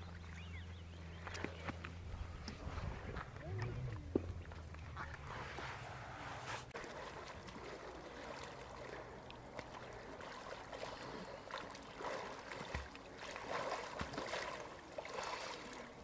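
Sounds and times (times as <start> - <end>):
lake water splashing and lapping: 0.0 - 16.0.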